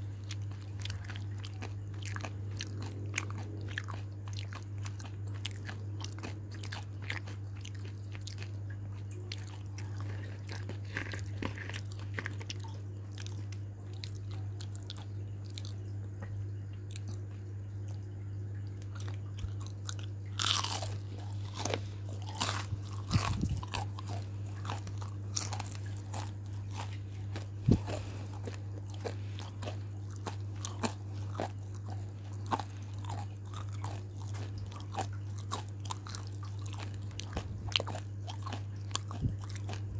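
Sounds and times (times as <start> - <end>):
crunchy food being chewed: 0.0 - 39.9
steady low hum: 0.0 - 39.9.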